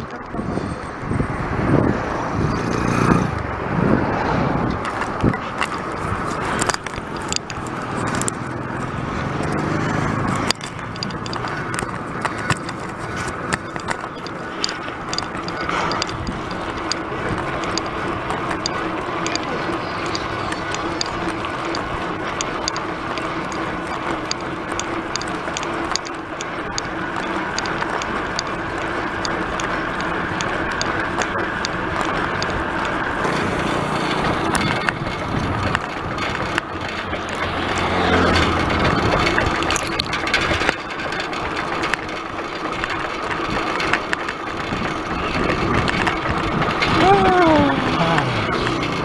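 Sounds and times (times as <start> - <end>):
bicycle road and wind noise: 0.0 - 49.0
motorcycle engines passing: 0.0 - 49.0
light regular ticking: 4.6 - 49.0.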